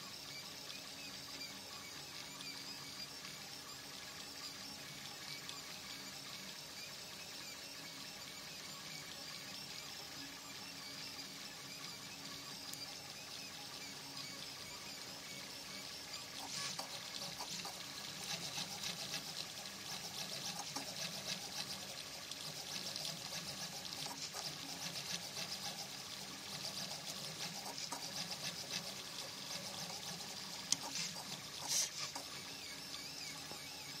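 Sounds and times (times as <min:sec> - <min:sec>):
printer stepper motors whirring: 0:00.0 - 0:34.0.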